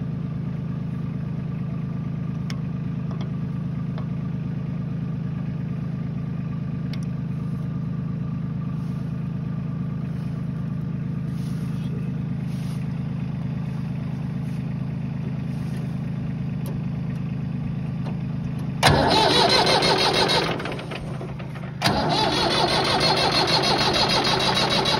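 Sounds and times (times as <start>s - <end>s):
tractor diesel engine droning: 0.0s - 24.9s.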